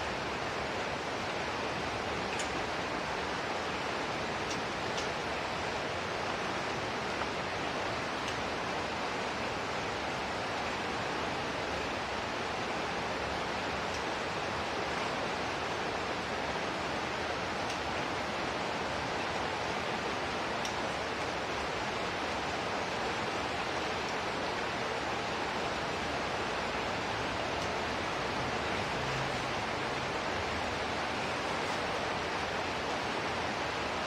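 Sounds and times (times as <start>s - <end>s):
falling water hiss: 0.0s - 34.0s.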